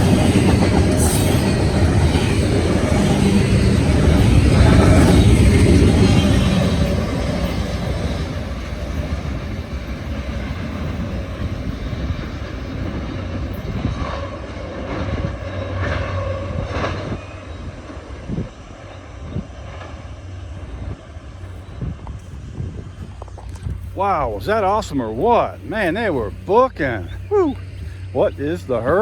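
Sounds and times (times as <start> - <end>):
freight train rumble: 0.0 - 29.0
wheels clattering on rail: 0.0 - 29.0.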